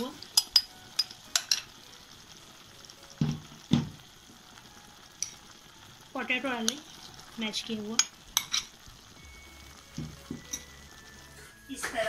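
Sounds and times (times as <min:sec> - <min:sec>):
faint sizzle in pan: 0:00.0 - 0:12.0.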